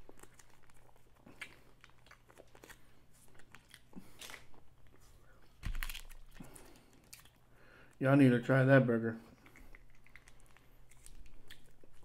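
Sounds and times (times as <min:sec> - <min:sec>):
person chewing food: 0:00.0 - 0:08.0, 0:09.3 - 0:12.0.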